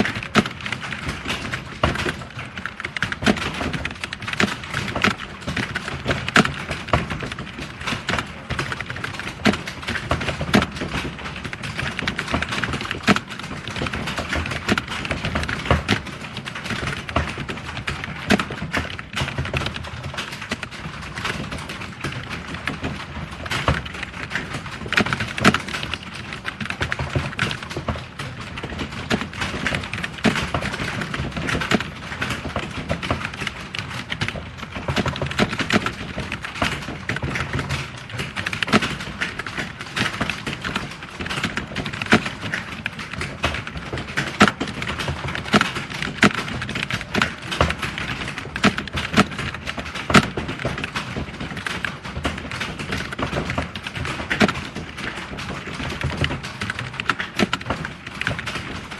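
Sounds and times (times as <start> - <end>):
fast keyboard typing: 0.0 - 58.9.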